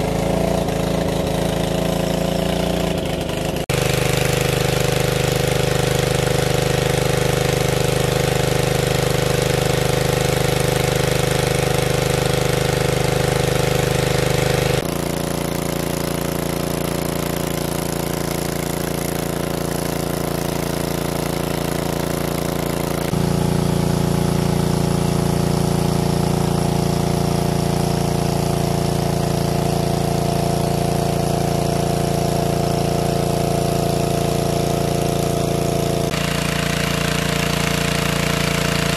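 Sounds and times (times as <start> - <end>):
engine-driven water pump running: 0.0 - 38.9.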